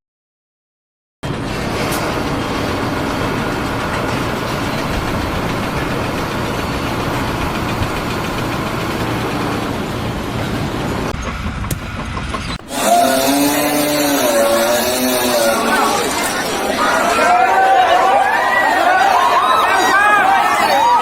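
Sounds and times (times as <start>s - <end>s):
loud steady machine noise: 1.2s - 21.0s.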